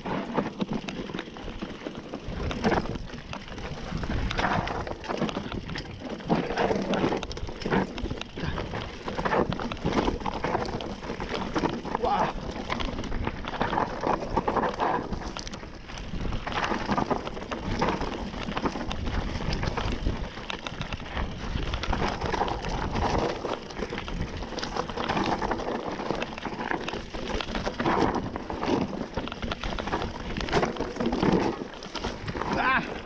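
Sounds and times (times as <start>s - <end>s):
bike rattling over bumps: 0.0s - 33.0s
tyres crunching over stones: 0.0s - 33.0s.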